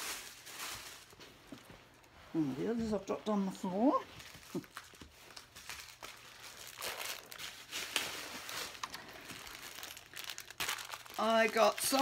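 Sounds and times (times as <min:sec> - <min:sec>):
packaging crinkling: 0:00.0 - 0:02.1, 0:04.1 - 0:12.0.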